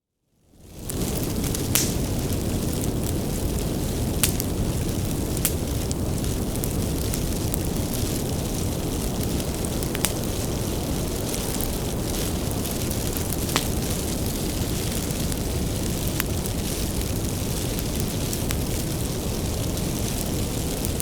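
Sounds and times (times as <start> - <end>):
bonfire low rumble: 0.5 - 21.0
wood crackling and popping: 0.7 - 21.0.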